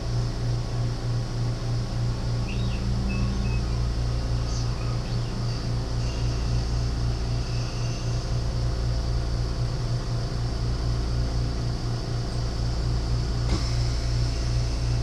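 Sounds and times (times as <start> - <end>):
throbbing machine hum: 0.0 - 15.0.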